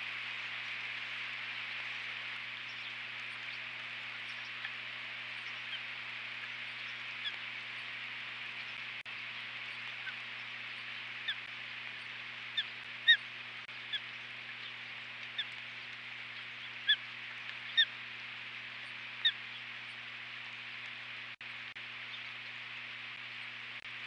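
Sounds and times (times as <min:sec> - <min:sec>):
low electrical hum: 0:00.0 - 0:24.0
steady hiss: 0:00.0 - 0:24.0.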